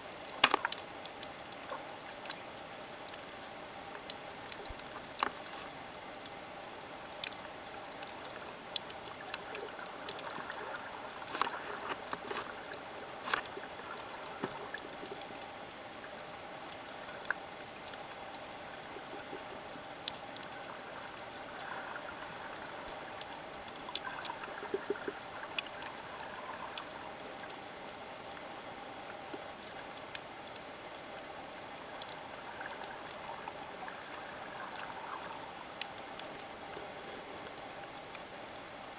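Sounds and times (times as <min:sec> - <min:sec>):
sharp clicks and crackles: 0:00.1 - 0:06.4, 0:07.1 - 0:38.8
water swishing: 0:00.2 - 0:38.7.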